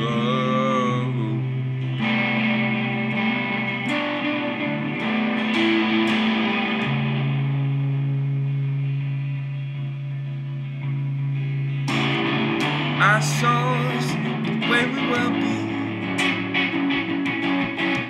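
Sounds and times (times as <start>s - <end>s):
guitar chords strummed: 0.0s - 18.0s.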